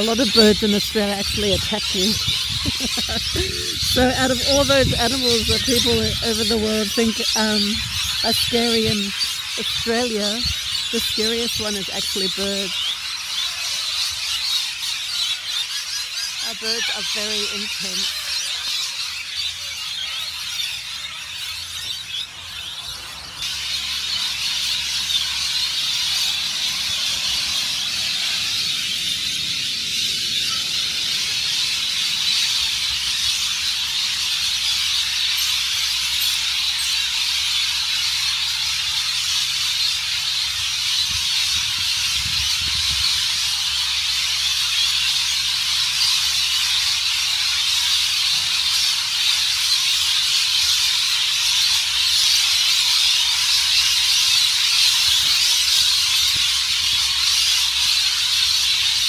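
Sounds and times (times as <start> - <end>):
flock of birds screeching: 0.0 - 59.0.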